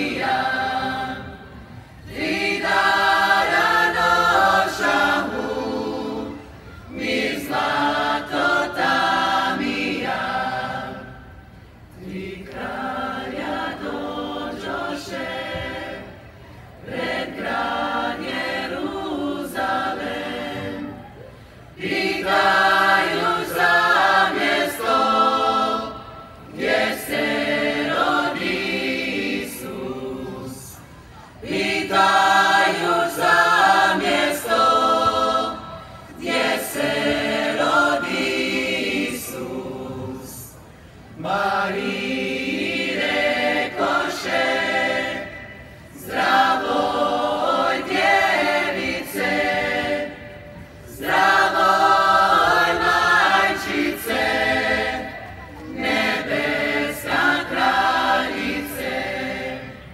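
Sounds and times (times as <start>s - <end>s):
choir singing unaccompanied: 0.0s - 21.1s, 21.7s - 59.9s.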